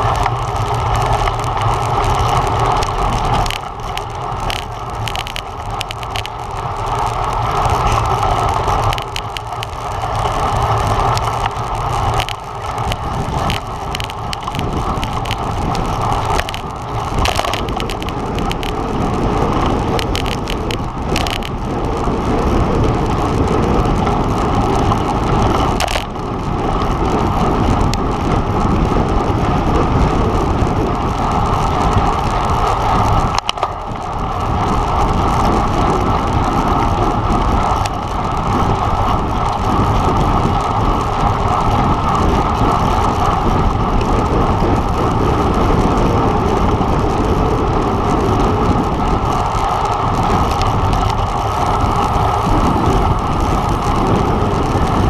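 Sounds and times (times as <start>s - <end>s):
wind and road noise from bike: 0.0s - 55.0s.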